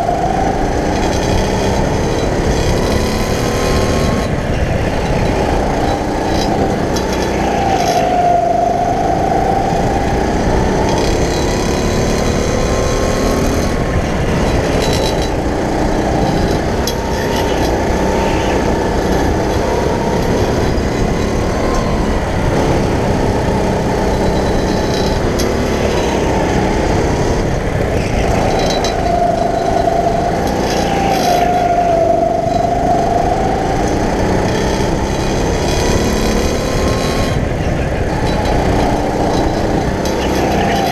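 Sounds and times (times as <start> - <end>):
go-kart motor: 0.0 - 40.9.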